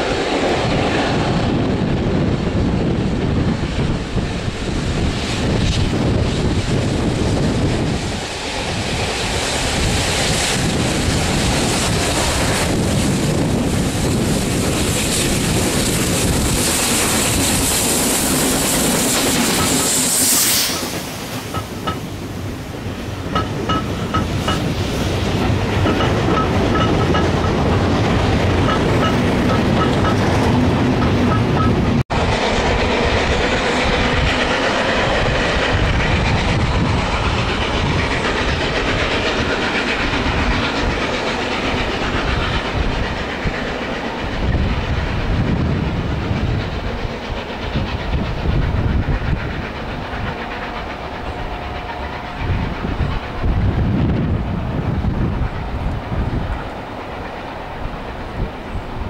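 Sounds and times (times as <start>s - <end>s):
diesel locomotive running: 0.0s - 59.0s
steam train working: 0.0s - 59.0s
train wheels clattering over rails: 2.8s - 59.0s.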